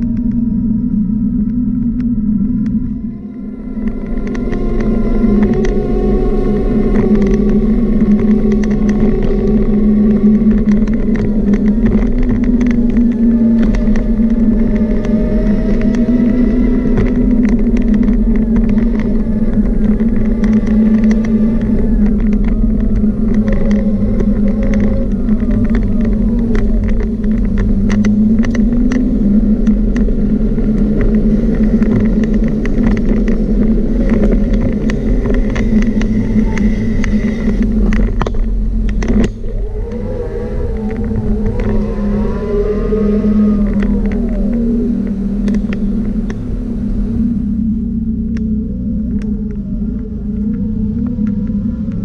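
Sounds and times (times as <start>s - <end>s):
electric motor whine: 0.0s - 52.0s
clicks and rattles from bumps: 3.8s - 46.4s.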